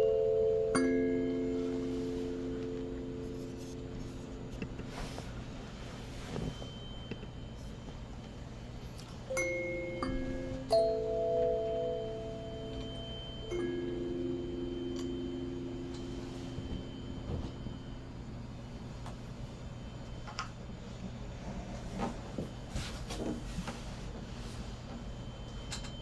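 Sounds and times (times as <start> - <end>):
low ringing tone: 0.0 - 22.7, 24.3 - 26.0.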